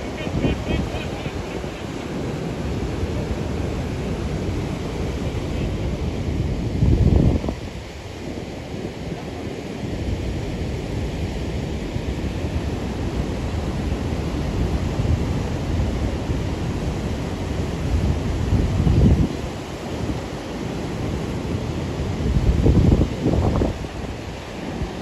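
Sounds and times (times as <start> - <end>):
river rapids roaring: 0.0 - 25.0
wind buffeting microphone: 0.0 - 25.0.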